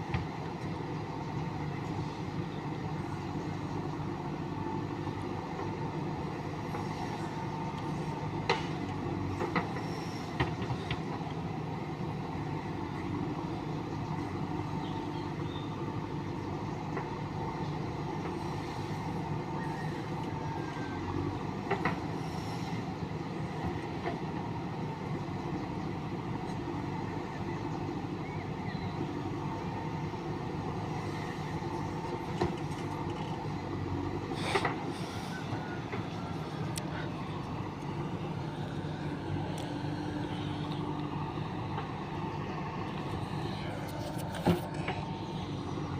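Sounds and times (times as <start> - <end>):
diesel machinery droning: 0.0 - 45.9.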